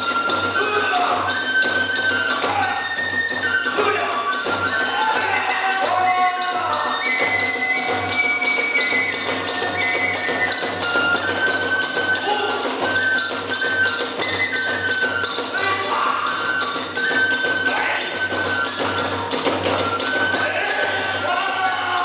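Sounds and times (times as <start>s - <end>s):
clashing percussion: 0.0s - 22.0s
drums beating: 0.0s - 22.0s
transverse flute long notes: 0.0s - 22.0s.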